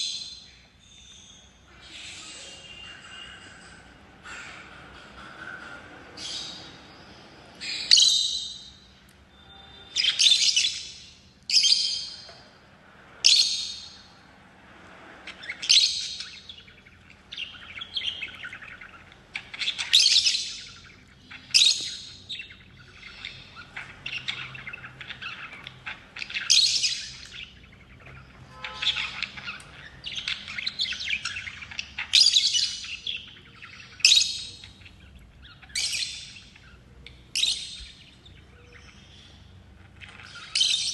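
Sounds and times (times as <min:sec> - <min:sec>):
lovebirds chirping: 0:00.0 - 0:04.8, 0:05.5 - 0:40.9.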